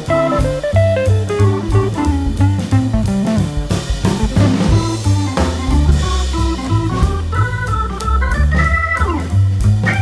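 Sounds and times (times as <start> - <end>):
bass line: 0.0 - 10.0
keyboard melody: 0.0 - 10.0.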